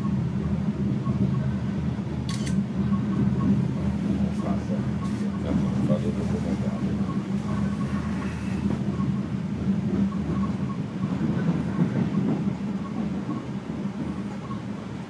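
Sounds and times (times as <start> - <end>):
passenger train running: 0.0 - 15.0.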